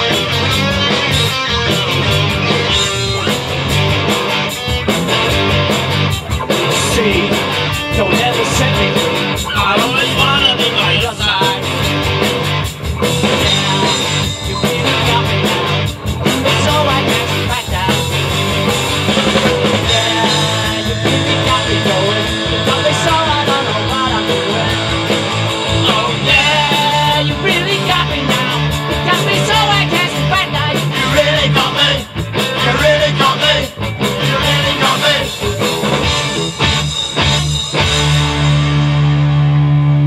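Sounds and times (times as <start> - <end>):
drum kit: 0.0 - 40.0
electric guitars: 0.0 - 40.0.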